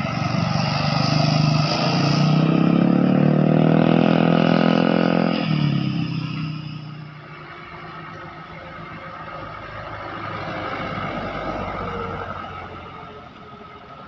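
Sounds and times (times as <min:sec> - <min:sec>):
vehicle engine passing close: 0:00.0 - 0:14.0.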